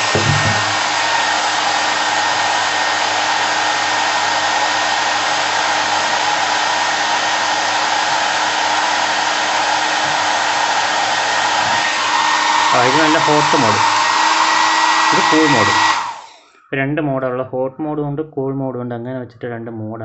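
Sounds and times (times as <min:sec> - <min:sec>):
hair dryer blowing air: 0:00.0 - 0:16.4.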